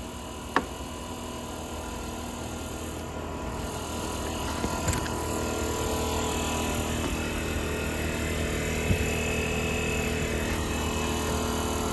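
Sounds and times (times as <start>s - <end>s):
air impact wrench whirring: 0.0s - 11.9s.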